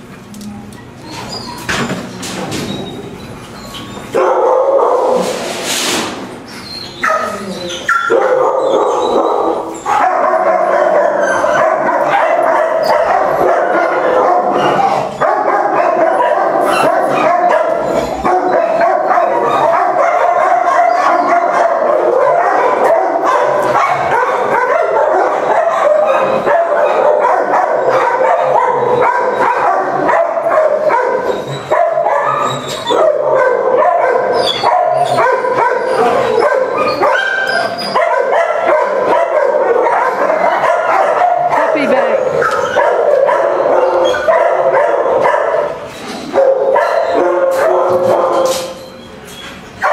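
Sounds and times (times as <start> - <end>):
many dogs barking and howling: 3.7 - 5.3, 6.7 - 49.9.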